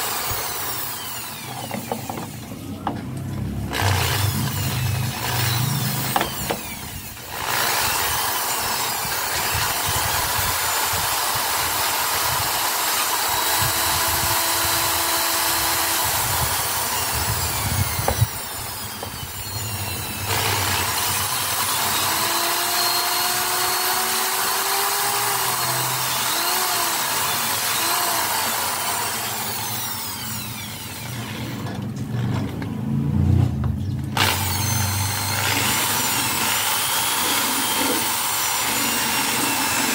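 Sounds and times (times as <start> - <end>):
electric power tool running: 0.0 - 32.6, 34.1 - 39.9.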